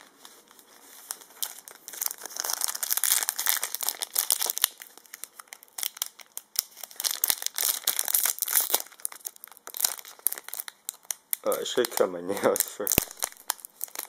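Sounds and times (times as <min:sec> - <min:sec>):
foil wrapper crinkling: 0:00.0 - 0:14.0.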